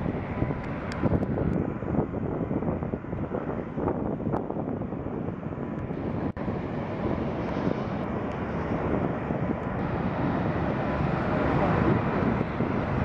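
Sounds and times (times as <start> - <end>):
jet aircraft rush: 0.0 - 13.0.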